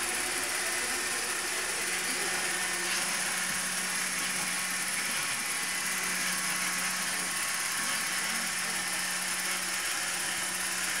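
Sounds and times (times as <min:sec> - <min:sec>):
robot vacuum whirring: 0:00.0 - 0:11.0.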